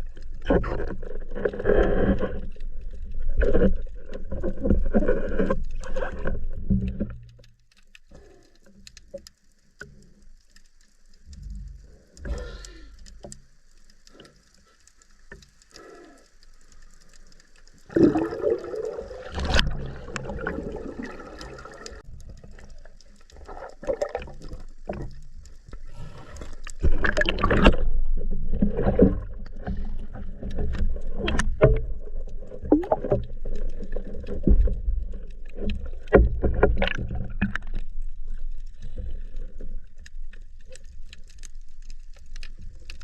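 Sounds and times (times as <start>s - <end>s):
water sloshing and gurgling: 0.0s - 43.0s.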